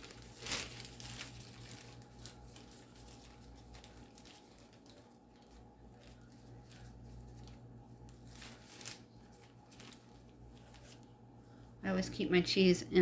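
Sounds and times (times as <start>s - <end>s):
faint clicks and rustles: 0.0s - 11.8s.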